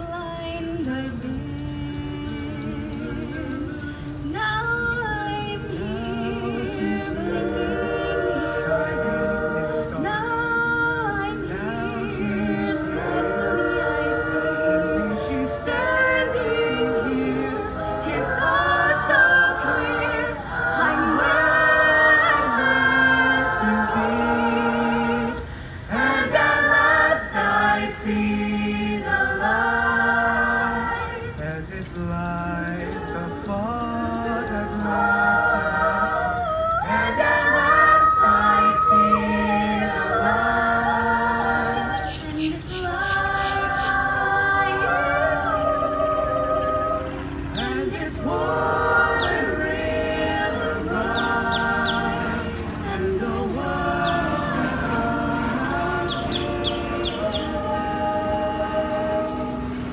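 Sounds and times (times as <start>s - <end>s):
choir singing in harmony: 0.0s - 59.9s
soloist singing into a microphone: 0.0s - 59.9s.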